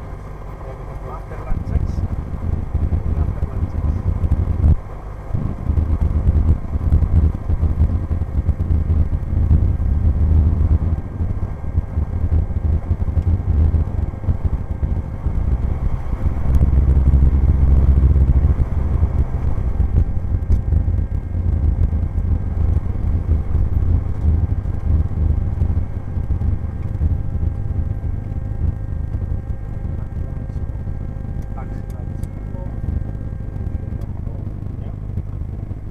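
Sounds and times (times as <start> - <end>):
propeller plane engine running: 0.0 - 35.9.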